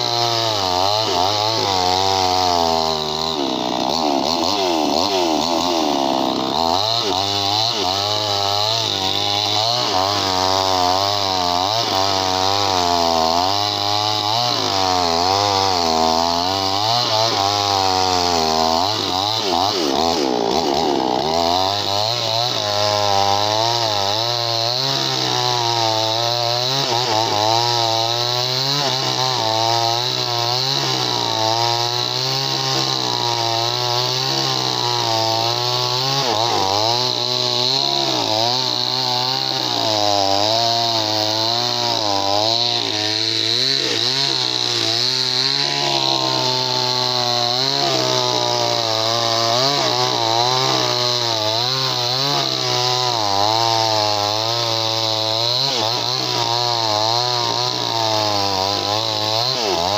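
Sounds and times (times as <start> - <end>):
chainsaw sawing wood: 0.0 - 59.9.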